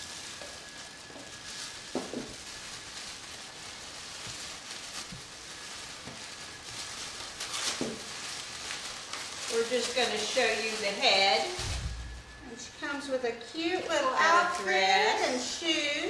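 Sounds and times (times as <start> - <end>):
tissue paper crinkling: 0.0 - 12.8, 13.6 - 16.0.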